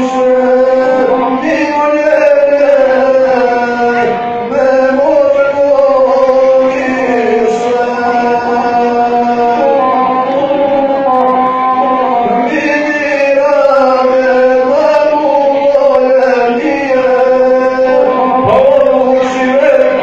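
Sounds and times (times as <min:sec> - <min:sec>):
bowed single-string fiddle: 0:00.0 - 0:20.0
man chanting a song: 0:00.0 - 0:20.0.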